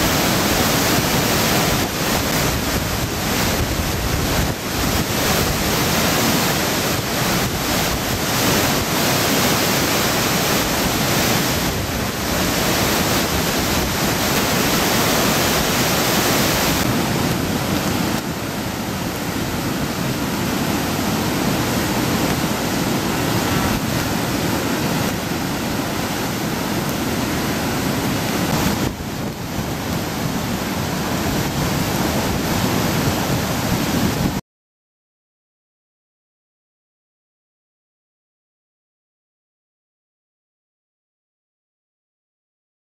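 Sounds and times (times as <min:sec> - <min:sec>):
flooded river rushing: 0:00.0 - 0:34.4.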